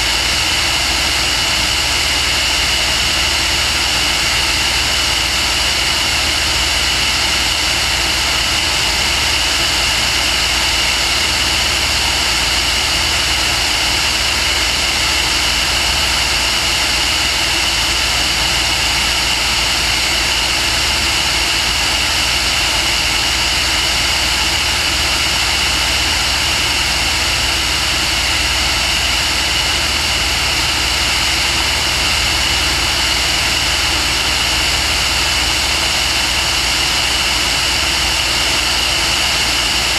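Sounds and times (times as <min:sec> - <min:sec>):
aircraft engine and propeller: 0:00.0 - 0:39.9
steady high whine: 0:00.0 - 0:39.9.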